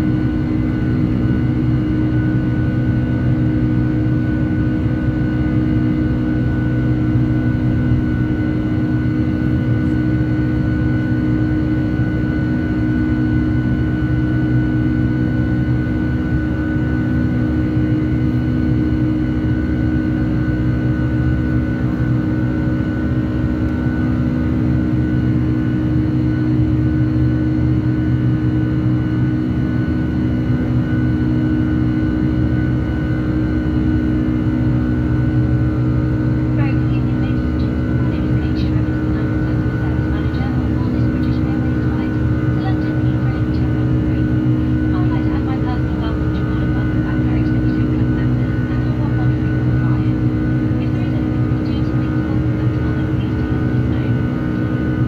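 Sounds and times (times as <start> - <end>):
jet engines droning: 0.0 - 55.0
steady humming tones: 0.0 - 55.0.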